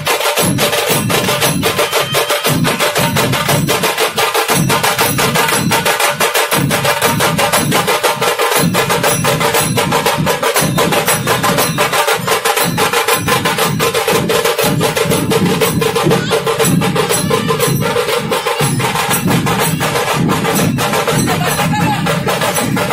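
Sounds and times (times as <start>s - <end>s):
fast even drumbeats: 0.0s - 22.9s.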